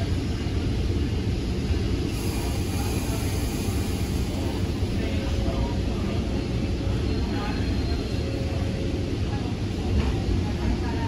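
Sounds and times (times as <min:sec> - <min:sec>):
train rumbling from inside coach: 0:00.0 - 0:11.0.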